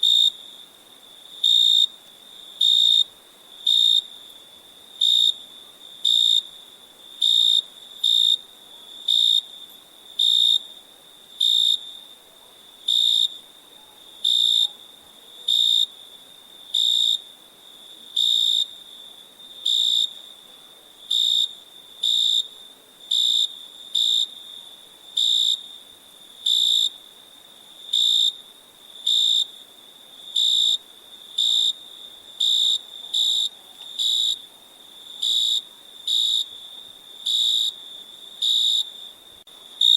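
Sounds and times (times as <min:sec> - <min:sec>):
cricket chirping: 0:00.0 - 0:39.9
distant crickets trilling: 0:00.0 - 0:39.9.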